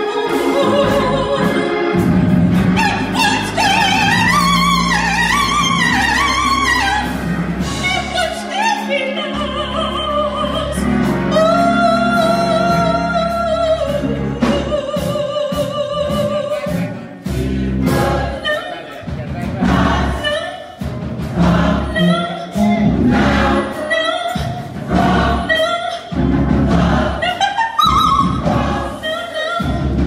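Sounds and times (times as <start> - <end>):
woman singing with vibrato: 0.0 - 1.9, 2.7 - 17.1, 17.8 - 19.0, 19.7 - 30.0.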